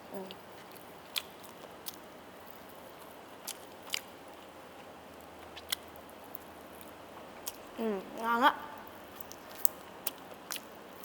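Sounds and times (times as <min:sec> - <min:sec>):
chewing with mouth clicks: 0:00.2 - 0:04.5, 0:05.2 - 0:07.8, 0:08.9 - 0:11.0.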